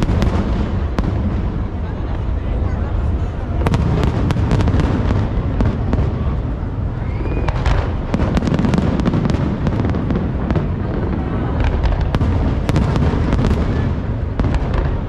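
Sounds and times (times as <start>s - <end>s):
fireworks rumbling and crackling: 0.0s - 15.0s.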